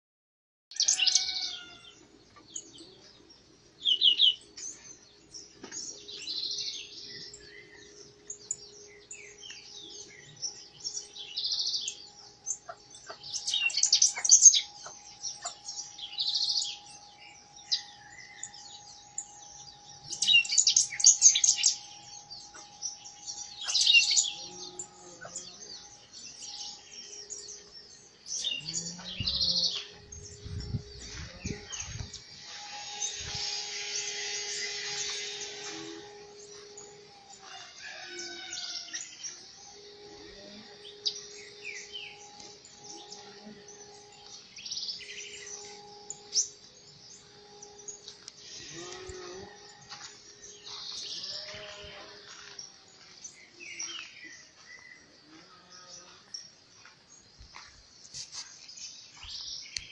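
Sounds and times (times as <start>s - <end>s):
bird singing high phrases: 0.7s - 55.1s.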